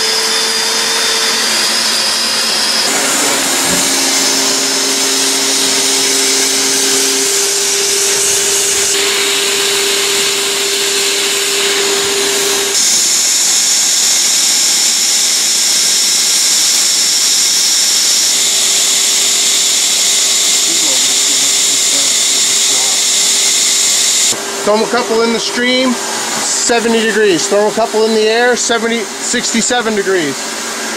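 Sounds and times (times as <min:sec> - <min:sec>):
hot-air welding tool whining: 0:00.0 - 0:30.9.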